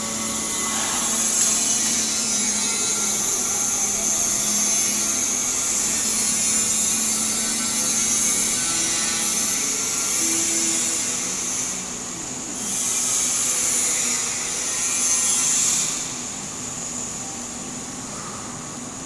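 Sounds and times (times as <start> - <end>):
welding arc hissing: 0.0 - 17.5.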